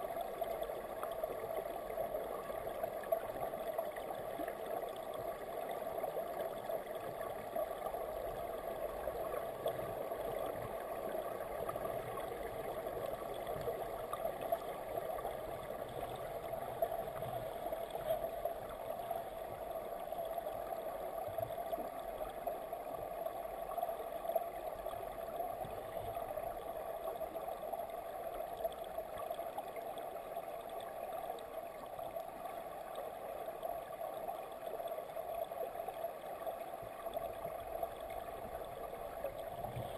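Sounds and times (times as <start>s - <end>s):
muffled underwater stream rush: 0.0s - 39.9s.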